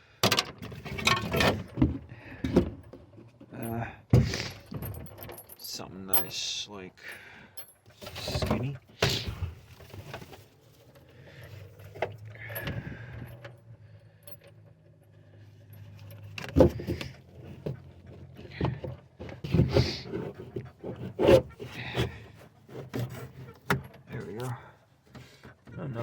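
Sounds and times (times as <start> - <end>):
rummaging and clattering: 0.2 - 26.0.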